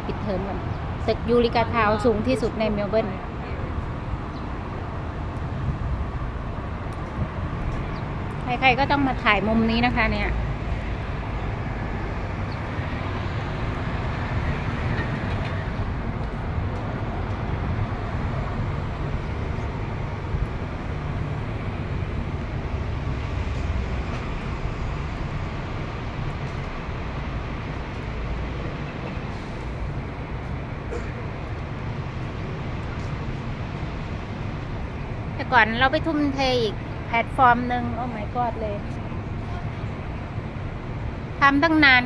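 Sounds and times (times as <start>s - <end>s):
traffic rumble: 0.0s - 42.0s.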